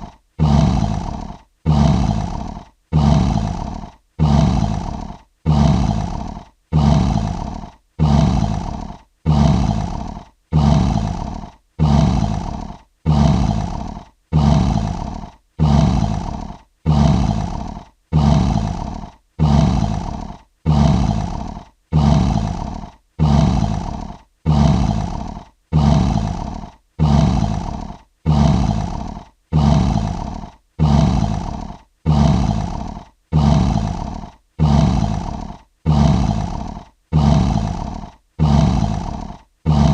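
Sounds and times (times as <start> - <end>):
lion roaring: 0.0 - 39.9.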